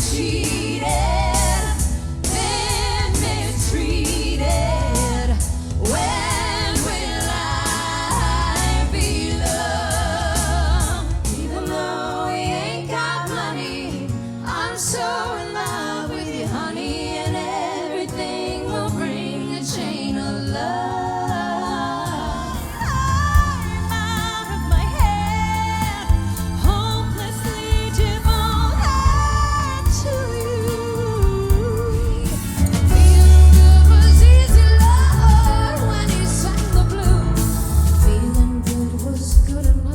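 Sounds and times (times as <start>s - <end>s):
soft-rock song with harmony vocals: 0.0s - 39.9s.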